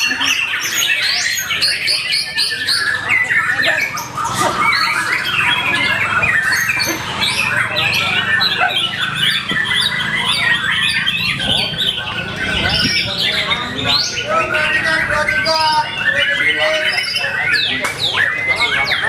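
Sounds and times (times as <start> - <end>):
bird song whistles and chirps: 0.0 - 19.0.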